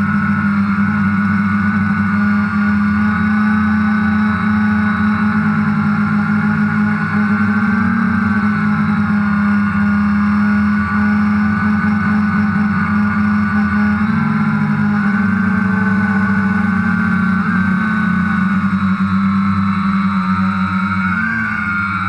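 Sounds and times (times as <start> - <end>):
drone rotors buzzing: 0.0 - 22.0.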